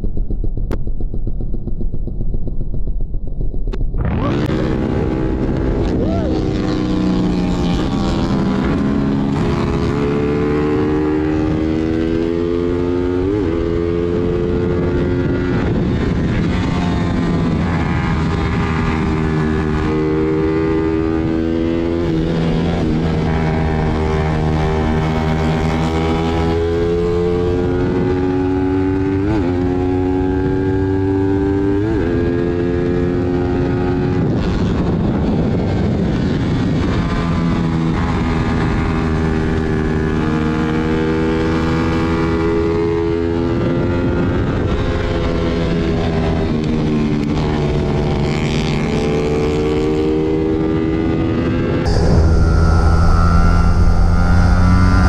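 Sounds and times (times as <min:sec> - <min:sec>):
wind rushing: 0:00.0 - 0:29.0, 0:30.1 - 0:42.7, 0:50.1 - 0:55.0
motorcycle engine while riding: 0:00.0 - 0:55.0.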